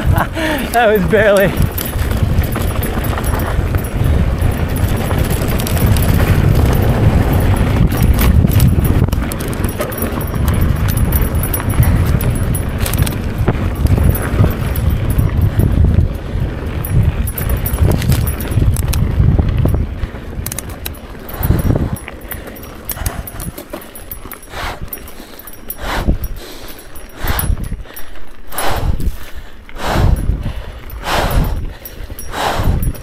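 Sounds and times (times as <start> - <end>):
bike clicking and rattling: 0.0 - 33.0
wind rumble on microphone: 0.0 - 33.0.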